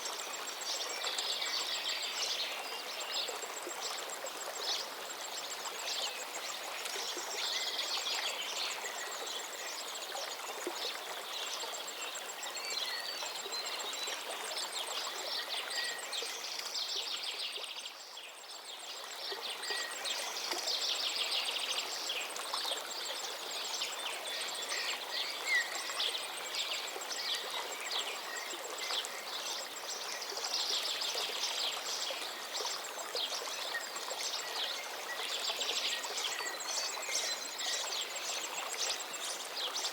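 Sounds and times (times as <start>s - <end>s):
river water running: 0.0s - 39.9s.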